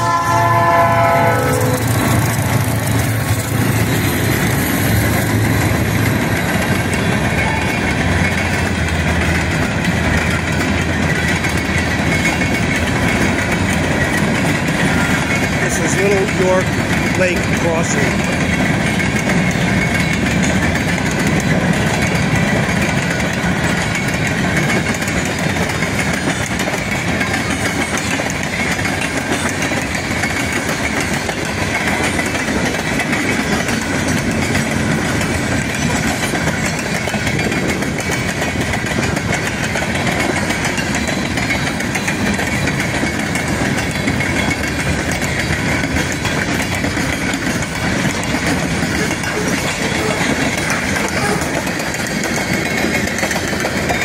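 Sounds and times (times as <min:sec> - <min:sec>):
steel train wheels on rails: 0:00.0 - 0:54.0.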